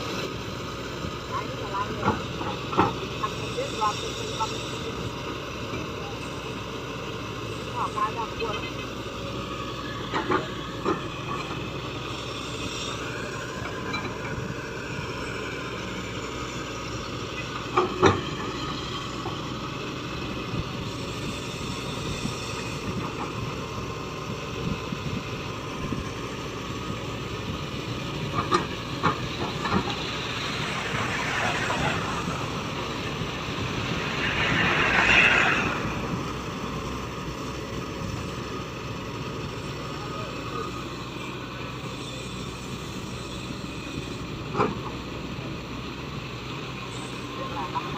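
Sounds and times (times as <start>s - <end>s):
excavator engine and hydraulics: 0.0s - 47.9s.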